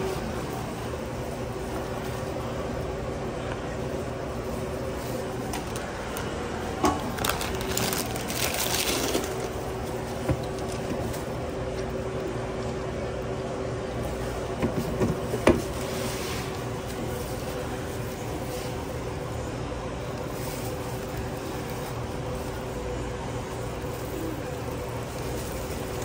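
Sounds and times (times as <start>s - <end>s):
equipment hum: 0.0s - 26.0s.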